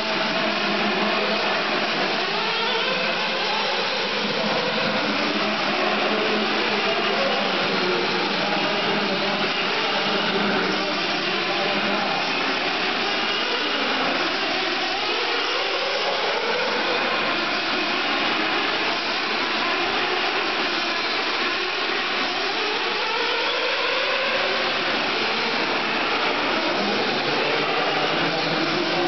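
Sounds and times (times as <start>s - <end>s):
rc car engines buzzing whine: 0.0s - 29.0s.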